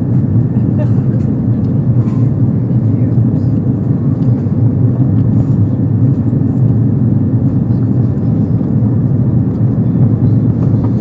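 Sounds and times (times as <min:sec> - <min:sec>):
airliner cabin engine and airflow rush: 0:00.0 - 0:11.0.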